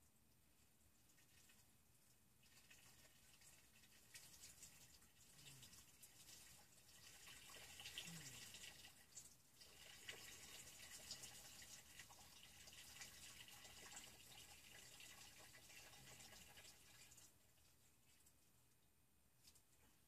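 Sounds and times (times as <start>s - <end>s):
water dripping and trickling: 0.0s - 20.0s.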